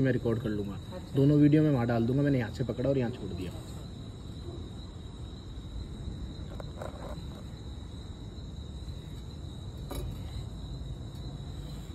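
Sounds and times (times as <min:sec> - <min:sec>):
high insect drone: 0:00.0 - 0:11.9.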